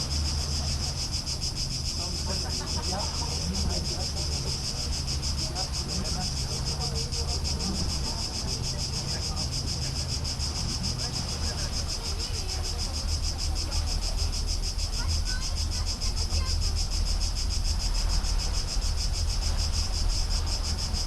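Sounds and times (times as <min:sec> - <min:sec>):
insects buzzing: 0:00.0 - 0:21.0
low rumble: 0:00.0 - 0:21.0.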